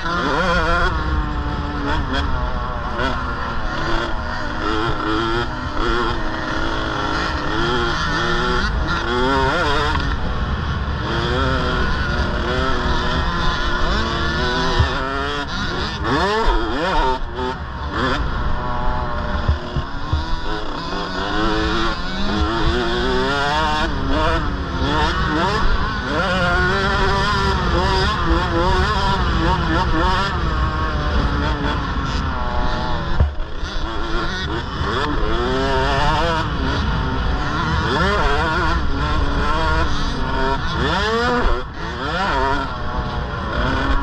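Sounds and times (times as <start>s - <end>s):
two-stroke engines revving: 0.0s - 44.0s.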